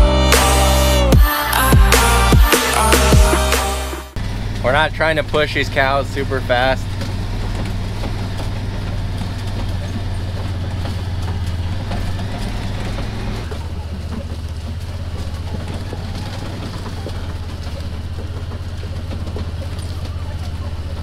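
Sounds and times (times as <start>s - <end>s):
utility vehicle engine running: 0.0s - 21.0s.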